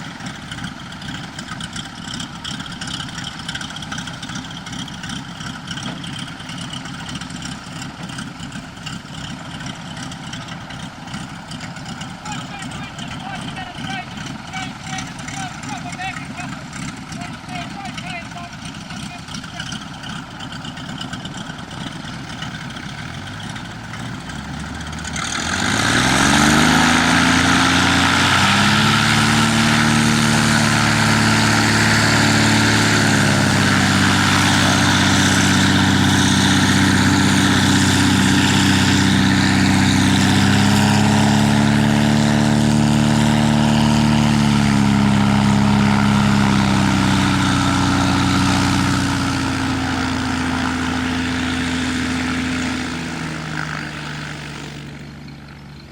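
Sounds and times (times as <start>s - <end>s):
plane engine and propeller: 0.0s - 55.9s.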